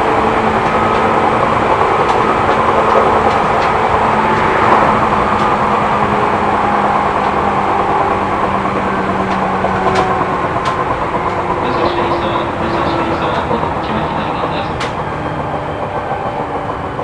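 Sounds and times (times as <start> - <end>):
faint track clicks: 0.0 - 17.0
motor and gear hum: 0.0 - 17.0
train wheels rumbling on rail: 0.0 - 17.0.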